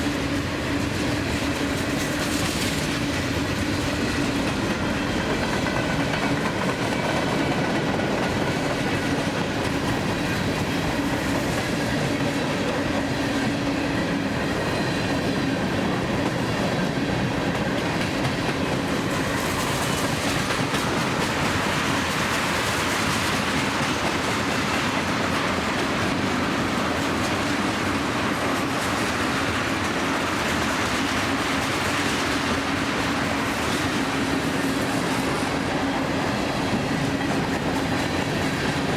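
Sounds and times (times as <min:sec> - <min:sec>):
train wheels rolling on rail: 0:00.0 - 0:38.9.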